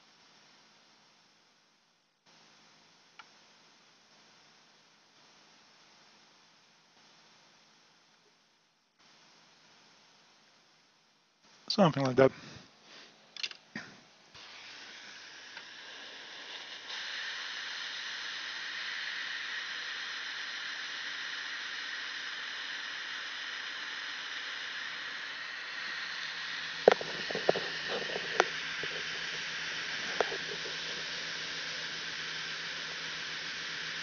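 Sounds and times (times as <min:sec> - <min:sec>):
hot-air station hissing: 0:00.0 - 0:34.0.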